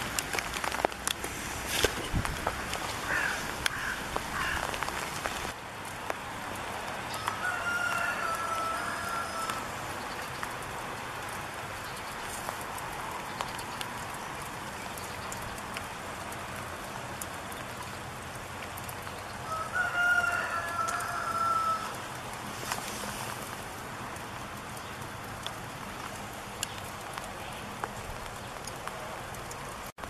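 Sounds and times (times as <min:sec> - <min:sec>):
steady rain patter: 0:00.0 - 0:30.0.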